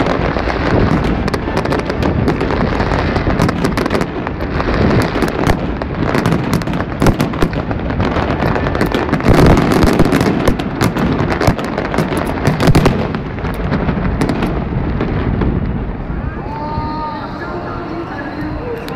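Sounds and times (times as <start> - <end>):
firework shells bursting: 0.0 - 15.8.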